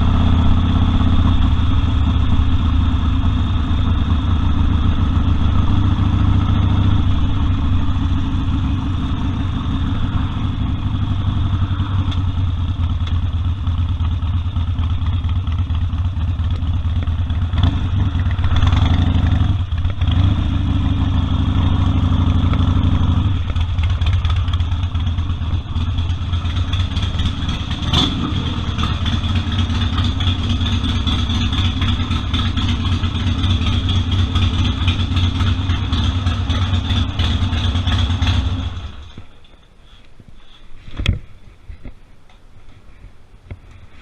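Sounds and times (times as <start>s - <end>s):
motorcycle engine idling: 0.0s - 40.7s.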